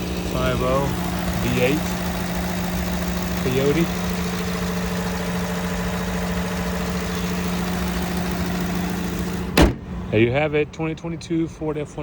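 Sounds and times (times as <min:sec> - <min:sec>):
truck engine idling: 0:00.0 - 0:10.9.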